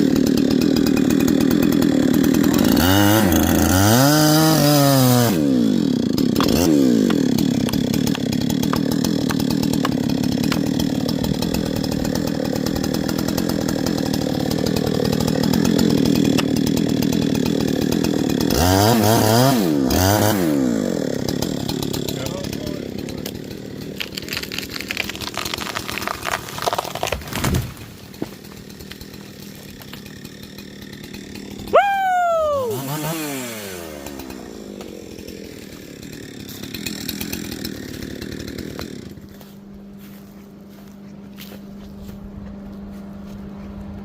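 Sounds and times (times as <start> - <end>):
chainsaw cutting: 0.0 - 44.0.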